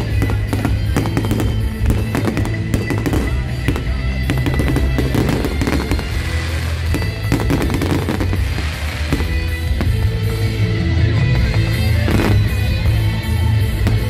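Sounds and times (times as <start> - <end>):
fireworks bangs and crackling: 0.0 - 14.0
music playing: 0.0 - 14.0.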